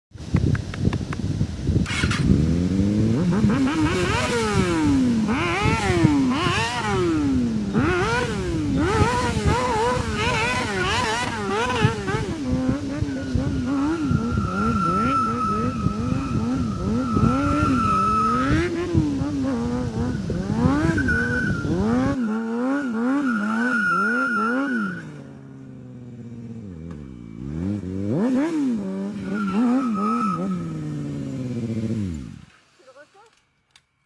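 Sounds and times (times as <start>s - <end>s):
motorcycle engine revving: 1.0s - 32.8s.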